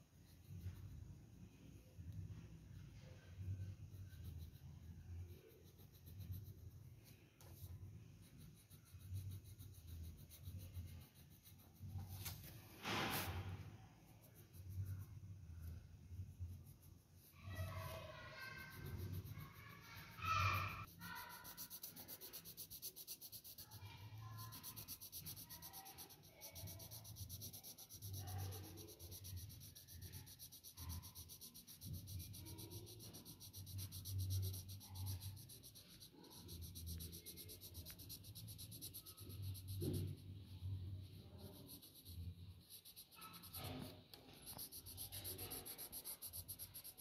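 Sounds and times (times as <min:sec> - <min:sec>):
pencil scratching on paper: 0:00.0 - 0:47.0.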